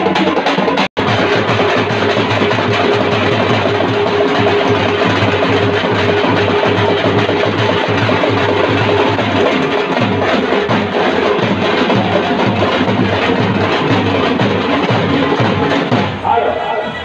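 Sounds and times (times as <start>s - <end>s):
frame drums beaten with sticks: 0.0s - 16.4s.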